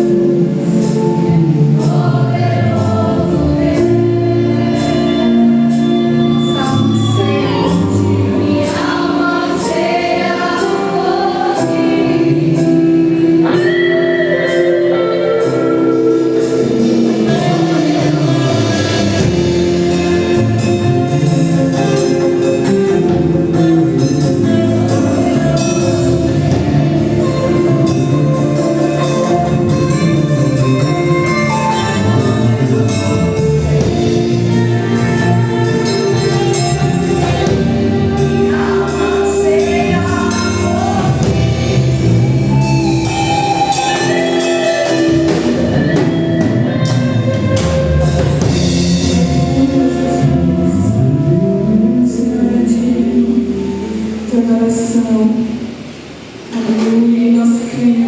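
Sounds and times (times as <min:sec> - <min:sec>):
band accompaniment: 0:00.0 - 0:58.0
group singing gospel: 0:00.0 - 0:58.0.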